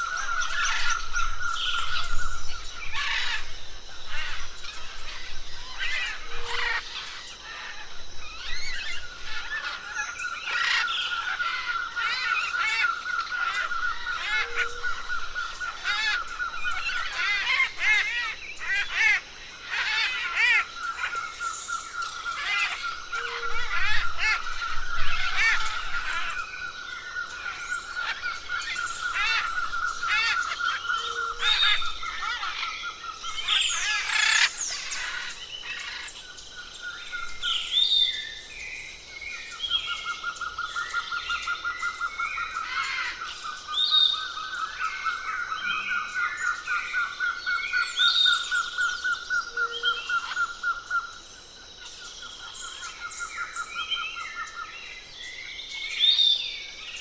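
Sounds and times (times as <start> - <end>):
forest birds chirping: 0.0 - 57.0.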